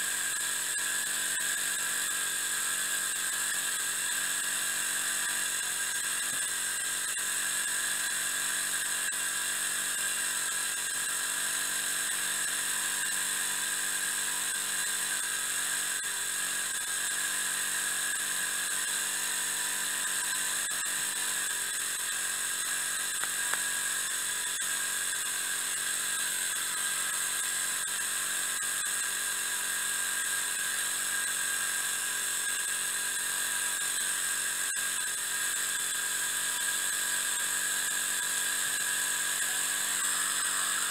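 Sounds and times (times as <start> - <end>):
steam engine whine with hiss: 0.0 - 40.9.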